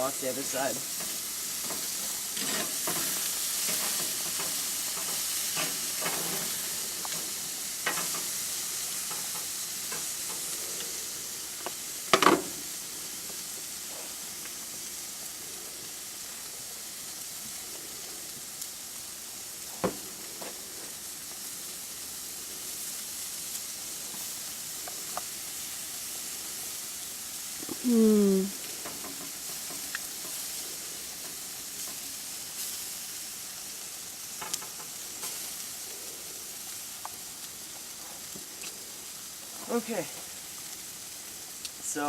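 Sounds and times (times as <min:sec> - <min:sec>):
steaks sizzling on a grill: 0:00.0 - 0:42.0.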